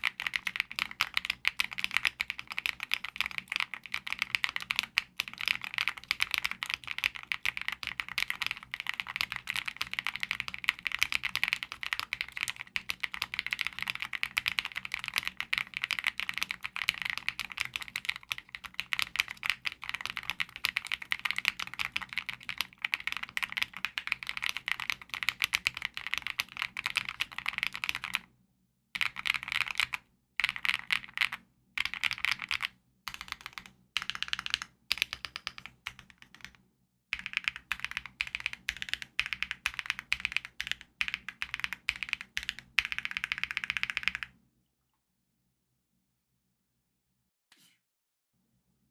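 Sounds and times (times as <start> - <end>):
typing on mechanical keyboard: 0.0 - 28.2, 29.0 - 36.6, 37.2 - 44.3.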